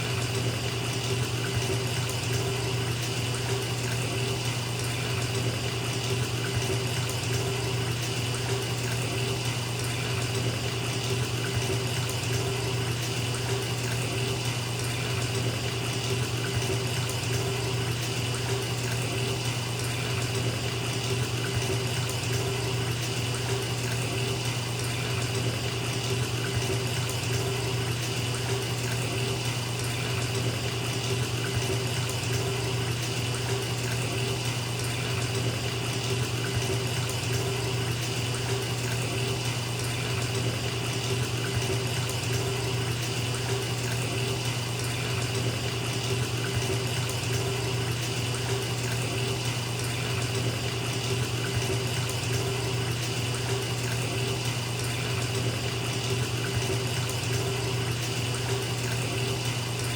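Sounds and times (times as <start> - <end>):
tap water pouring into a tub: 0.0 - 59.9.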